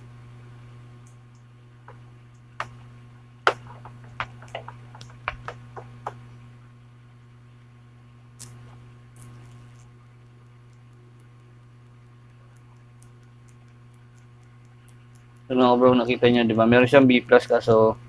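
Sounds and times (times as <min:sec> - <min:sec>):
television low hum: 0:00.0 - 0:18.0.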